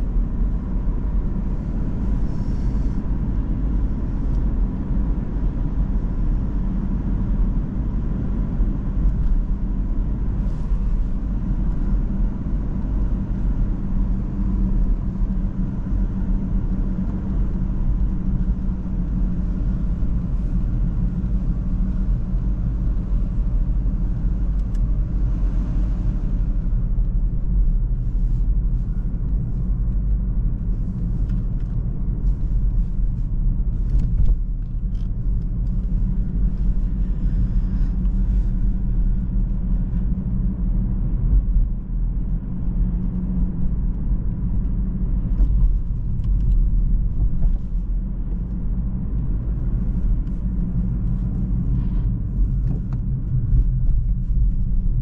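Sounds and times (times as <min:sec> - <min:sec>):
car engine running: 0:00.0 - 0:55.0
tyre and road rumble: 0:00.0 - 0:55.0.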